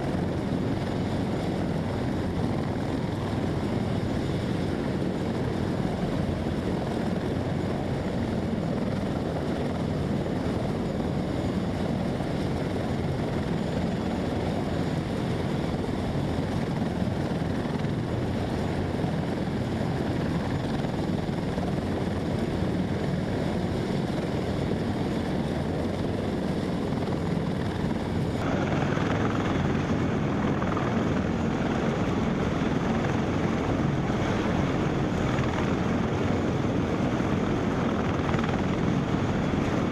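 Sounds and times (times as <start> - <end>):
helicopter engines and rotors: 0.0 - 39.9.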